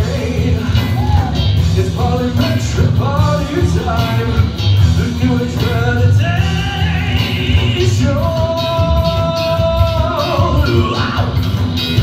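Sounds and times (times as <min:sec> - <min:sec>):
male singer: 0:00.0 - 0:11.5
drums: 0:00.0 - 0:12.0
electric guitar: 0:00.0 - 0:12.0.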